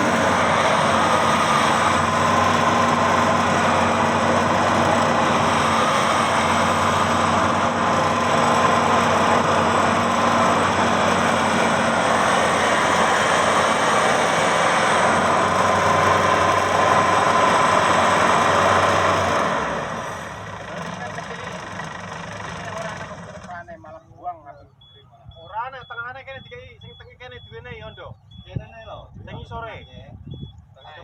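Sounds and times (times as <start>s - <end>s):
combine harvester engine running: 0.0s - 31.0s.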